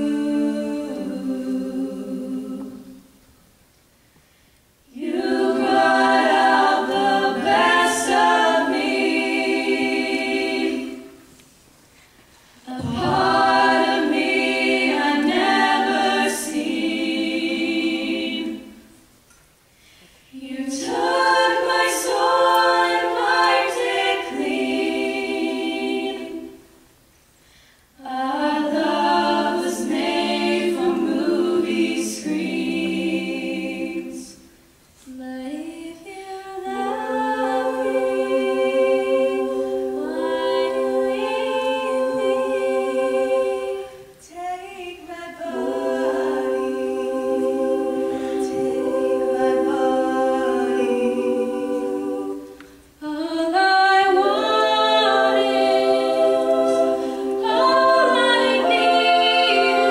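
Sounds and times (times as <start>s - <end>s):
women singing a cappella: 0.0s - 3.2s, 4.8s - 11.4s, 12.2s - 19.2s, 20.1s - 26.9s, 27.9s - 59.9s.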